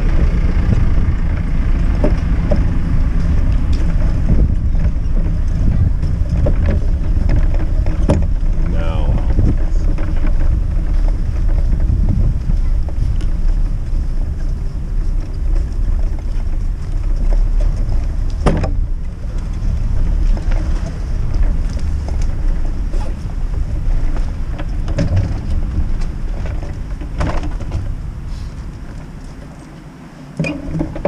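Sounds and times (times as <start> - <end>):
wind on microphone: 0.0 - 29.2
bike knocks and rattles: 0.0 - 29.7, 30.3 - 31.0
bike tyres rumbling on snow: 0.0 - 31.0.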